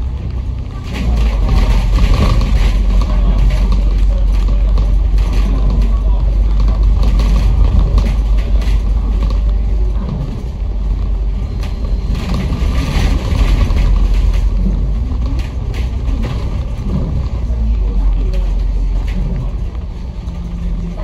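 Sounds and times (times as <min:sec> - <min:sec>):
body rattles and clicks: 0:00.0 - 0:21.0
bus engine and road rumble: 0:00.0 - 0:21.0.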